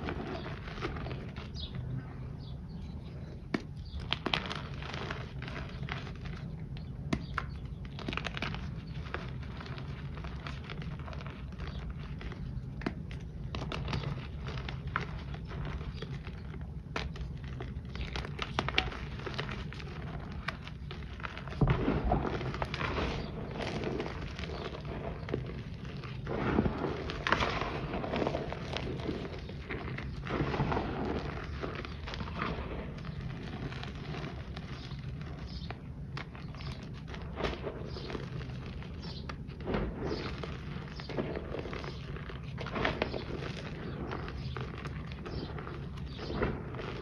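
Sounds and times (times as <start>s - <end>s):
hands crushing powder chunks: 0.0s - 2.0s, 3.1s - 47.0s.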